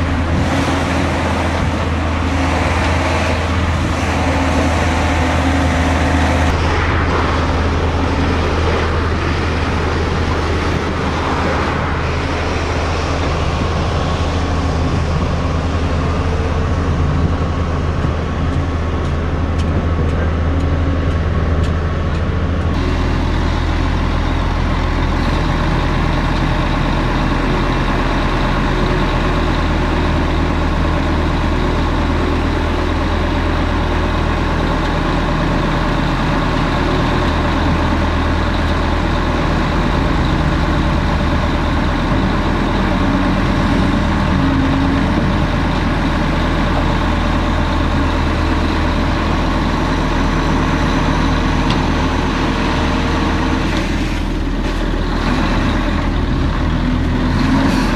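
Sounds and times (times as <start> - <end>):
diesel truck engine running: 0.0 - 57.9
hydraulics driving tipper body: 0.0 - 57.9.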